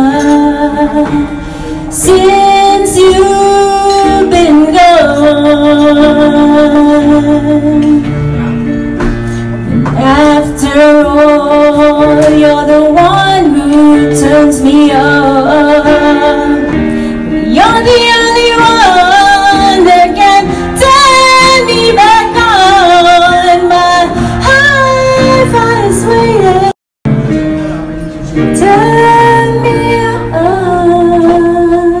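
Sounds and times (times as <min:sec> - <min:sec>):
woman singing with vibrato: 0:00.0 - 0:08.2, 0:09.7 - 0:26.8, 0:28.5 - 0:32.0
piano chords: 0:00.0 - 0:32.0.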